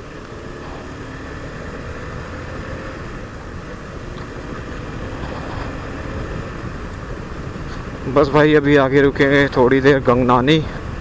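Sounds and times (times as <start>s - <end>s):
motorcycle engine running: 0.0s - 11.0s
wind rush over microphone: 0.0s - 11.0s.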